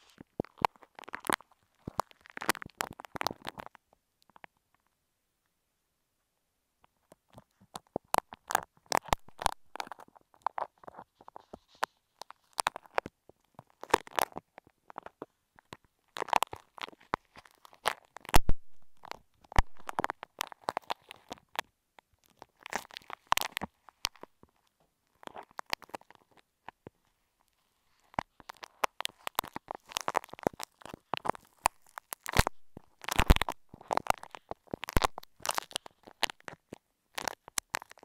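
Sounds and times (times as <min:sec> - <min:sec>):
clay crackling against microphone: 0:00.0 - 0:04.9, 0:06.8 - 0:38.0.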